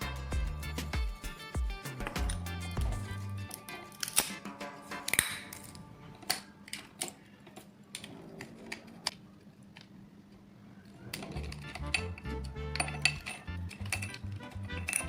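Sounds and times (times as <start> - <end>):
faint background music: 0.0 - 9.4, 10.7 - 15.0.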